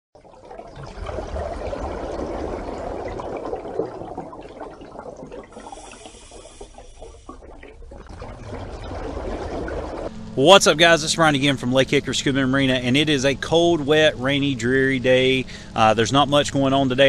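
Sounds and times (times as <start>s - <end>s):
water rushing and splashing: 0.3s - 17.0s.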